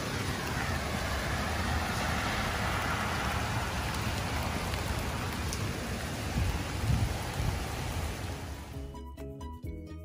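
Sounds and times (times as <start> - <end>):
rain on leaves and paving: 0.0 - 8.8.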